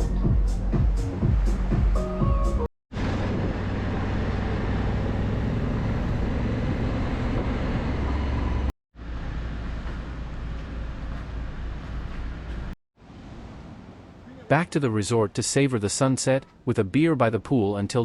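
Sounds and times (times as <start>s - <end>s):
road and wind noise: 2.9s - 18.0s.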